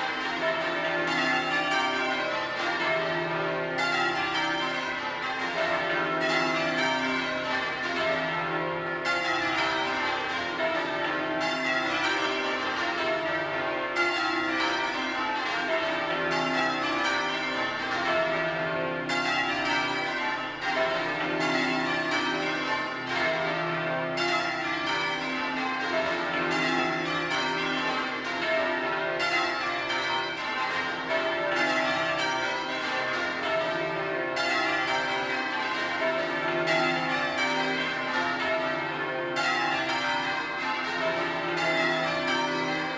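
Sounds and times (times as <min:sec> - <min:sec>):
church bells ringing changes: 0:00.0 - 0:42.9.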